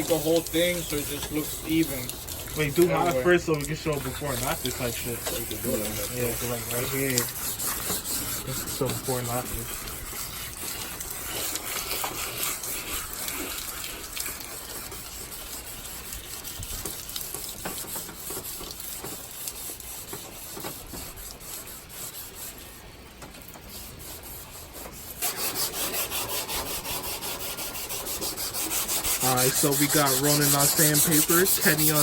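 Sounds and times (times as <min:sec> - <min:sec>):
sandpaper rasping: 0:00.0 - 0:22.9, 0:23.7 - 0:32.0.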